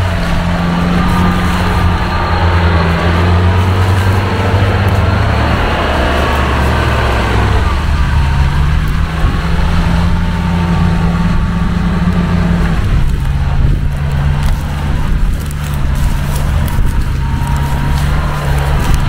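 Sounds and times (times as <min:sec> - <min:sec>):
engine running hard under load: 0:00.0 - 0:19.0.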